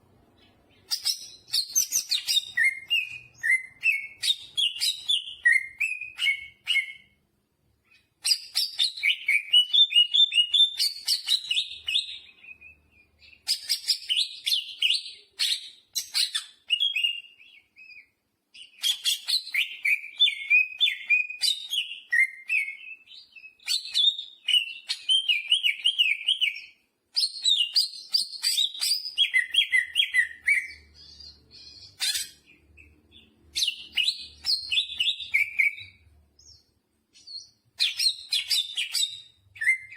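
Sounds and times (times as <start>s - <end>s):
bird singing chirps and trills: 0.3s - 7.2s, 7.8s - 39.9s.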